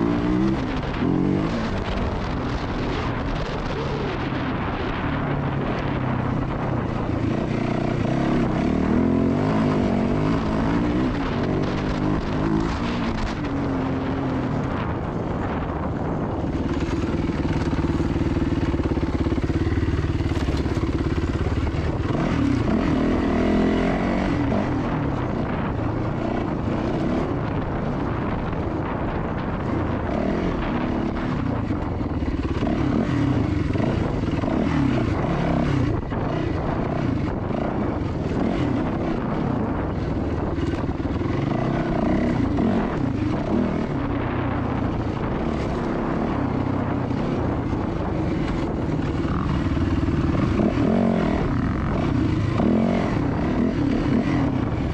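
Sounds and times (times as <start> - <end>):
dirt bike engine revving: 0.0 - 31.5, 32.2 - 54.9.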